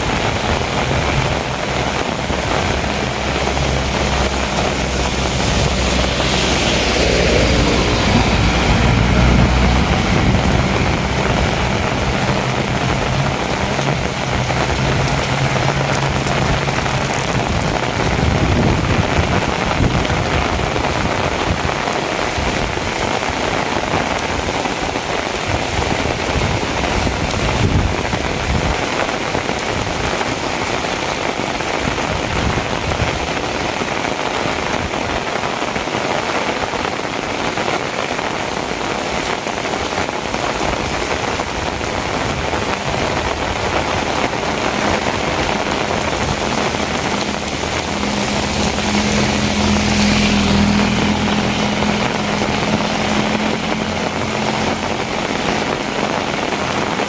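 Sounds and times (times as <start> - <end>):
low engine hum: 0.0 - 30.6, 37.6 - 57.0
heavy rain falling: 0.0 - 57.0.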